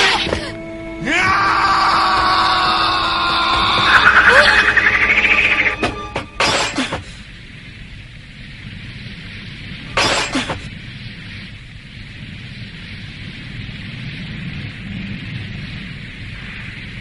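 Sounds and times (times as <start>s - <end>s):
low rumble: 1.0s - 10.0s, 10.6s - 17.0s.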